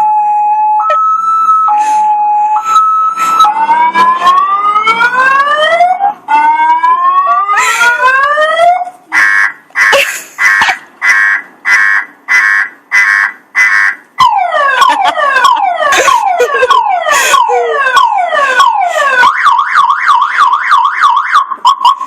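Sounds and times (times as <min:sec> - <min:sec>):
car alarm siren: 0:00.0 - 0:22.0.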